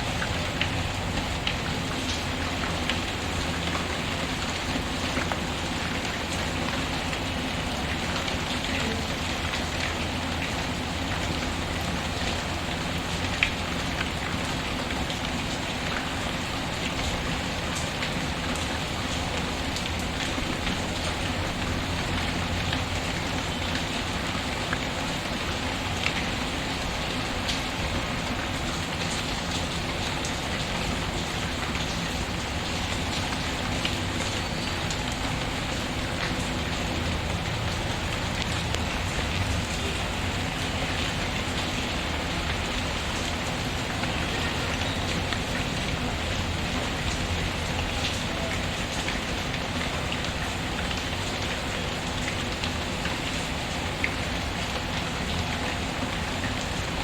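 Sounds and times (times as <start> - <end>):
heavy rain pattering: 0.0 - 57.0.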